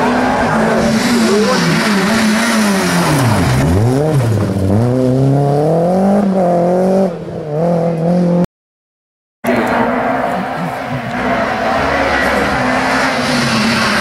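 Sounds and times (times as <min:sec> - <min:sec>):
rally car engine revving: 0:00.0 - 0:08.5, 0:09.4 - 0:14.0.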